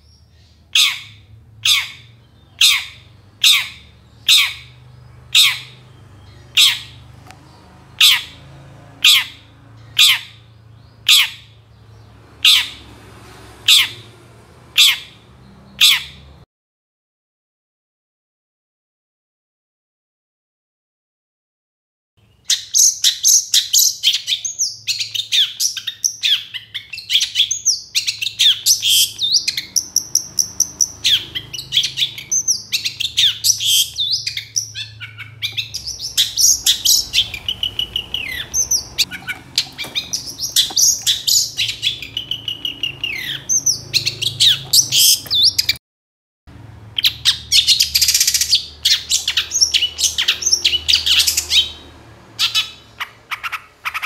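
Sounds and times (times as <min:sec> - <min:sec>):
bird singing rapid chirps: 0:00.0 - 0:16.4, 0:22.2 - 0:45.8, 0:46.8 - 0:54.0.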